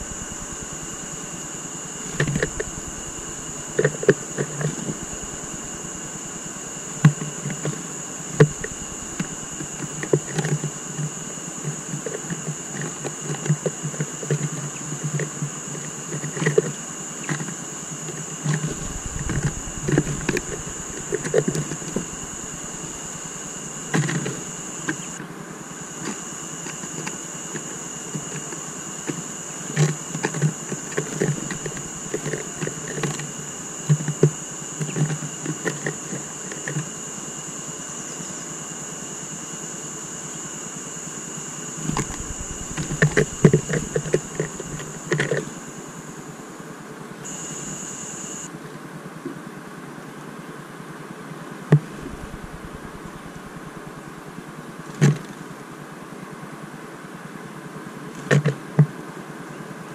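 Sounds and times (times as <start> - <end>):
high-pitched electronic whine: 0.0 - 48.6, 51.8 - 55.7.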